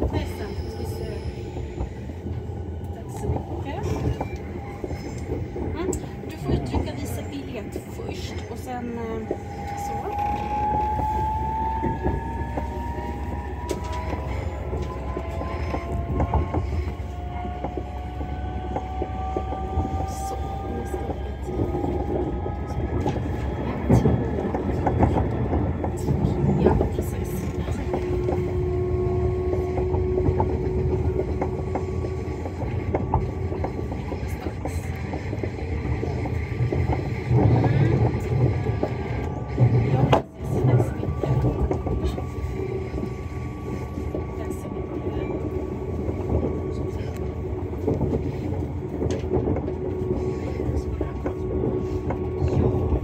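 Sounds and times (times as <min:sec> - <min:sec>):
train interior rumble: 0:00.0 - 0:53.0.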